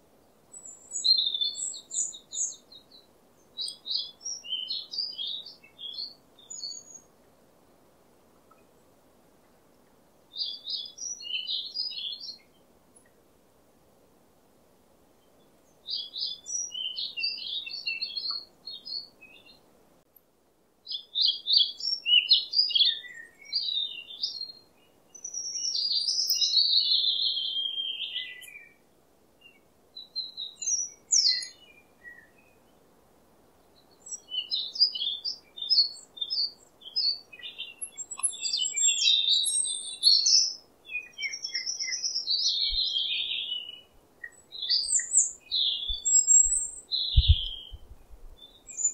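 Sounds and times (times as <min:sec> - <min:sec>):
songbird singing: 0:00.0 - 0:13.3, 0:15.1 - 0:20.2, 0:20.8 - 0:48.9
faint steady hiss: 0:00.0 - 0:48.9.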